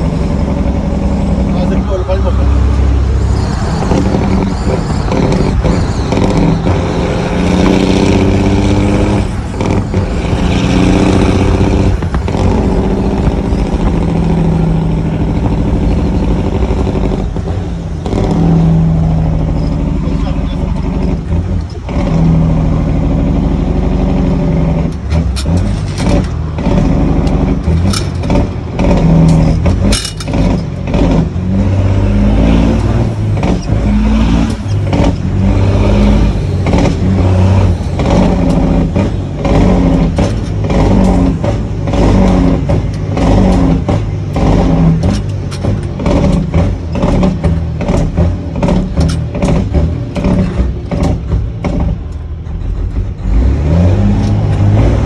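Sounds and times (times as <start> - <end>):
truck diesel engine pulling hard: 0.0 - 55.0.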